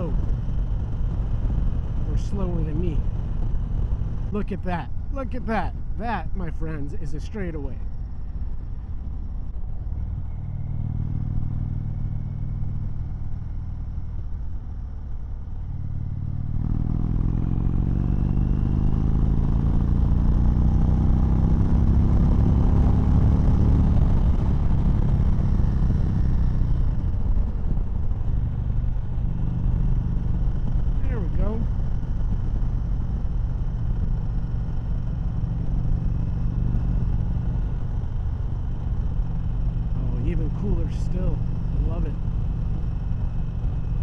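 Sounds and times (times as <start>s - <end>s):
motorcycle engine accelerating: 0.0s - 6.1s, 7.9s - 44.0s.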